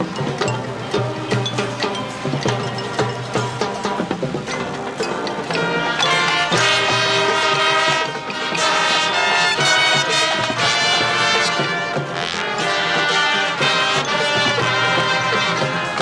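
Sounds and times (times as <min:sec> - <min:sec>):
brass chords: 0:00.0 - 0:16.0
marching band percussion: 0:00.0 - 0:16.0.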